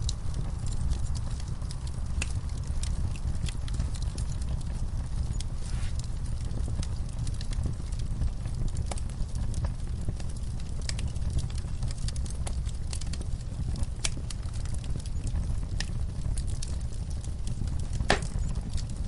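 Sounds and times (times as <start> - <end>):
low rumble of burning: 0.0 - 19.0
wood fire crackling: 0.0 - 19.0.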